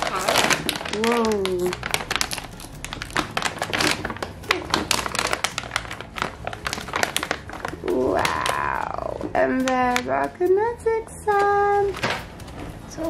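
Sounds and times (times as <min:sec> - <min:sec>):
plastic bag crinkling: 0:00.0 - 0:10.4, 0:11.4 - 0:13.0.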